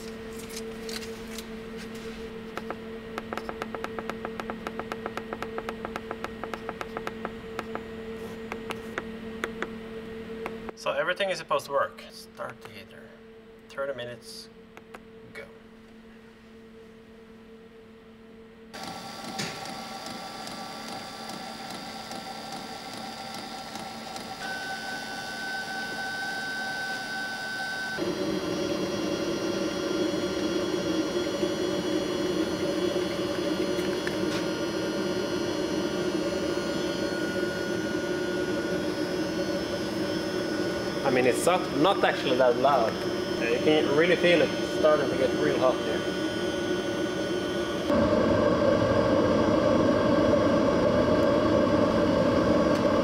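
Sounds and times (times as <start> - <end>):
diesel heater running: 0.0 - 53.0.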